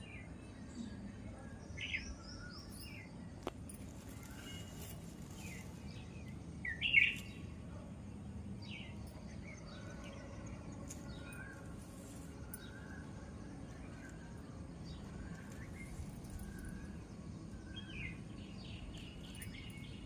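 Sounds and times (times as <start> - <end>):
low background noise: 0.0 - 20.0
small birds chirping: 0.0 - 20.0.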